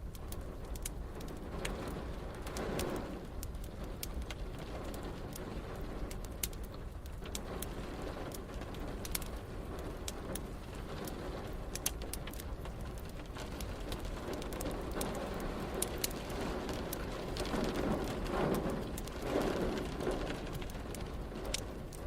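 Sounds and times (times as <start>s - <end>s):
hiss of rain: 0.0s - 22.0s
wood fire crackling: 0.0s - 22.0s.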